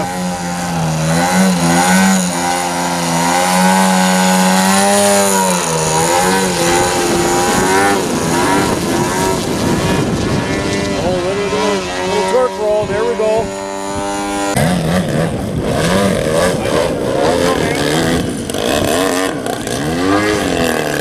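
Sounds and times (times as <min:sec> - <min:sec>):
model airplane engine and propeller: 0:00.0 - 0:21.0.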